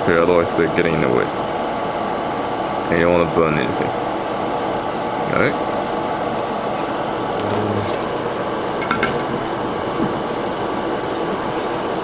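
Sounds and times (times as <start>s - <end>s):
fan noise: 0.0s - 12.0s.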